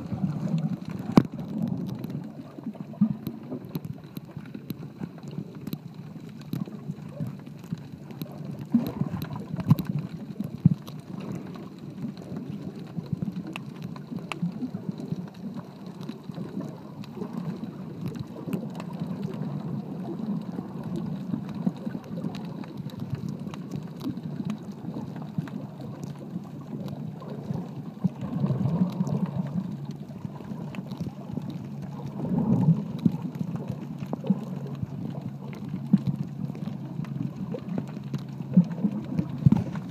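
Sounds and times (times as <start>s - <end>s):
crackles and ticks: 0.0s - 39.9s
underwater rush of water: 0.0s - 39.9s.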